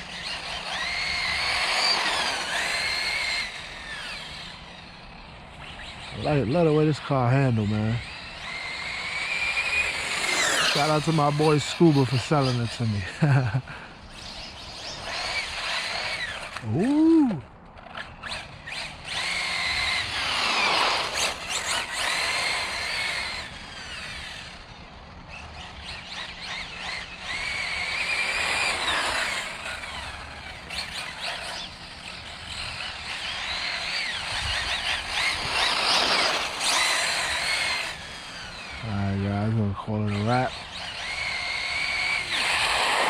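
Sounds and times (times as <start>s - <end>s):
electric motor whining: 0.0s - 43.0s.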